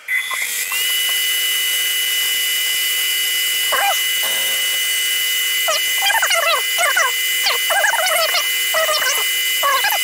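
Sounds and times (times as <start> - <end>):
mill motor whine: 0.0 - 10.0.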